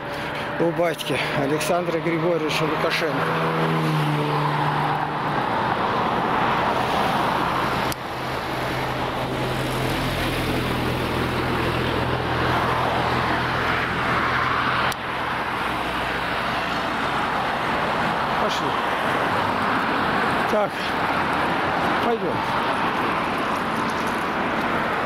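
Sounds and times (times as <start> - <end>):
low engine hum: 0.0 - 25.0
road traffic passing: 0.0 - 25.0.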